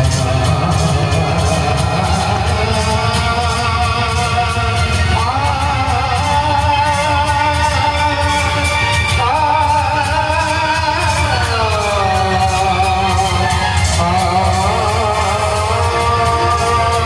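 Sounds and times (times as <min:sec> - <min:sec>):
instrumental backing with heavy bass: 0:00.0 - 0:17.0.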